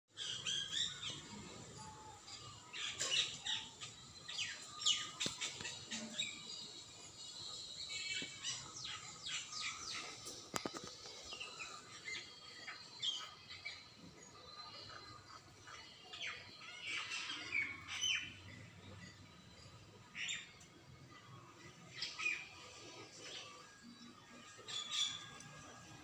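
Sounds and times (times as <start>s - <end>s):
songbirds chirping and trilling: 0.1s - 26.0s.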